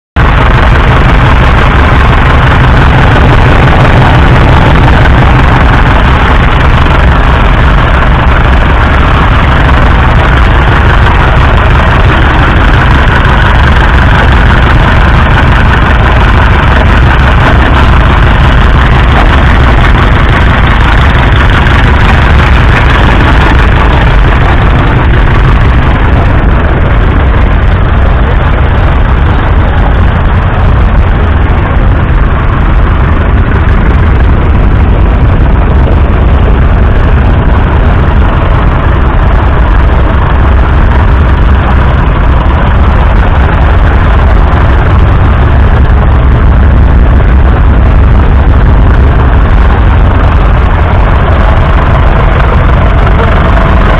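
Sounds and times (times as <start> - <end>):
tractor diesel engine idling: 0.1 - 53.9.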